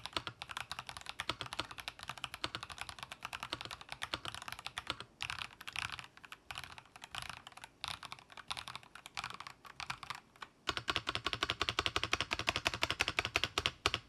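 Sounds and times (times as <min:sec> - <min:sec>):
typing on mechanical keyboard: 0:00.0 - 0:14.0.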